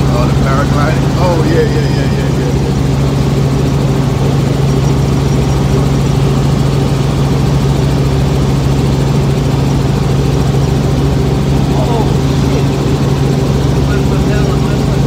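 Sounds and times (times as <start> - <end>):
helicopter engine and rotor hum: 0.0 - 15.0.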